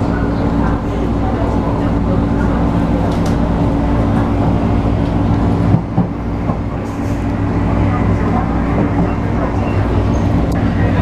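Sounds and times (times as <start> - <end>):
train rail noise: 0.0 - 11.0.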